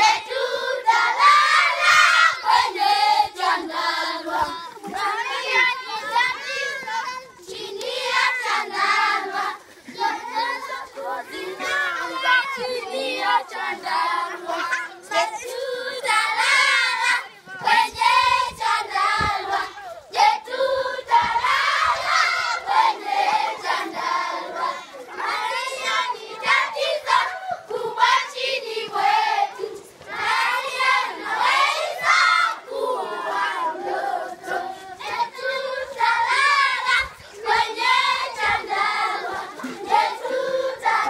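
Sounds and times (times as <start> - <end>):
children singing together: 0.0 - 41.0.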